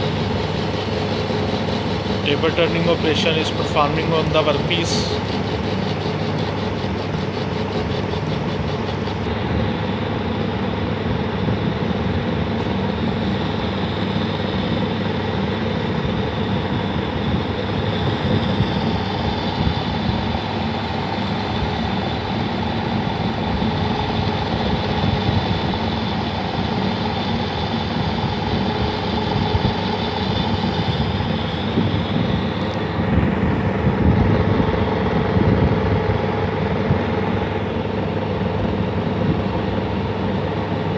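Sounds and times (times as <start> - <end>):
lathe motor hum: 0.0 - 40.9.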